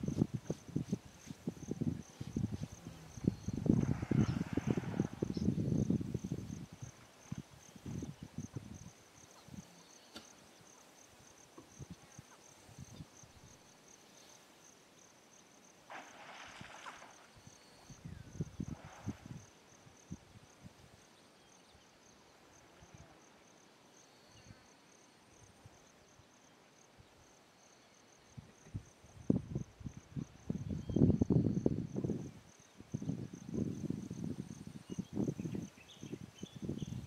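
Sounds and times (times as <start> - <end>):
insect chirping trill: 0.0 - 26.5, 27.1 - 37.0.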